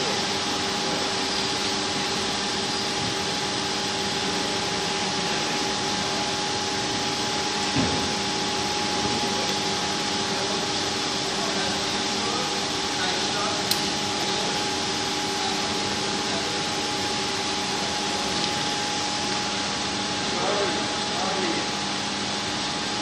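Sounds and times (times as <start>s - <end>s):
high machine whine: 0.0s - 23.0s
machinery hum and whir: 0.0s - 23.0s.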